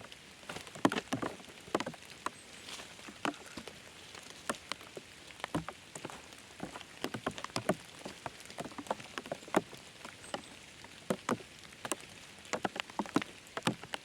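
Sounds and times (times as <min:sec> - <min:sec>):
faint hiss of rain: 0:00.0 - 0:14.0
raindrops tapping: 0:00.0 - 0:14.0.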